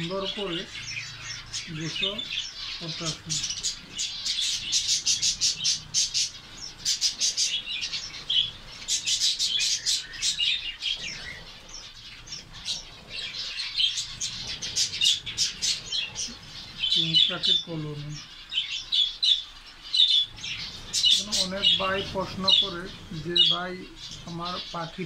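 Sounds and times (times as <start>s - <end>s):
finches chattering: 0.0s - 25.0s.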